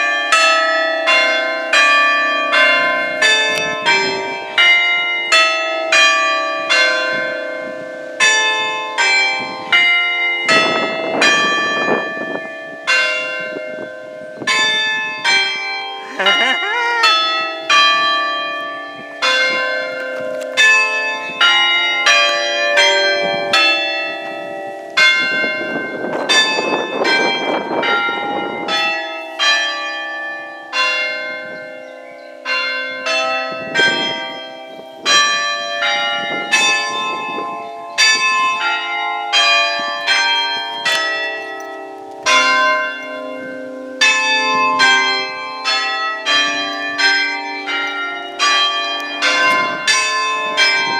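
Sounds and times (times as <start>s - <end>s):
church bells chiming: 0.0s - 50.9s.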